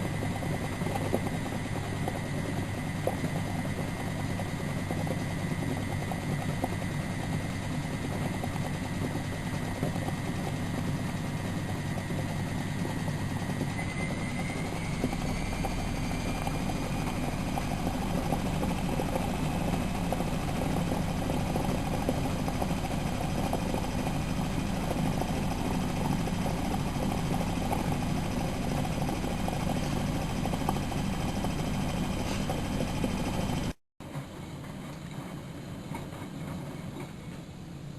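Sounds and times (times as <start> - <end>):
deep washing machine rumble: 0.0 - 37.9
washing machine motor whine: 0.0 - 37.9.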